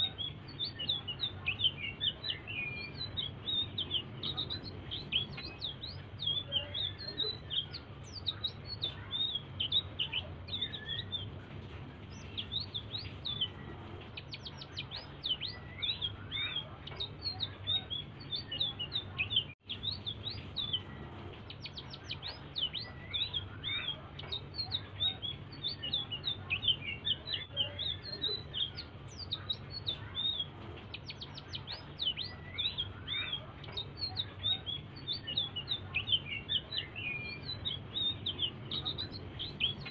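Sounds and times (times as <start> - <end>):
songbird singing fast chirps: 0.0 - 11.4, 12.1 - 39.9
low steady hum: 0.0 - 39.9.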